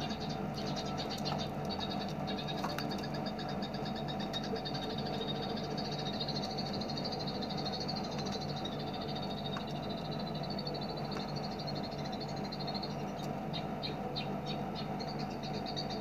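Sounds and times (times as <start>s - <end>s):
low hum: 0.0s - 16.0s
songbird rattling trill: 0.0s - 16.0s.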